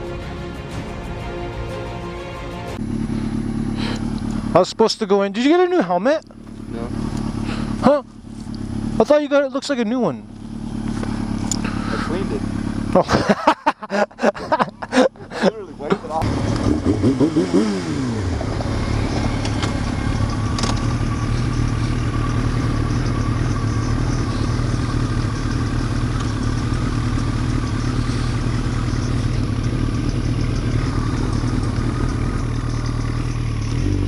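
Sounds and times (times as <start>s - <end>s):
motorcycle engine idling: 2.8s - 34.0s.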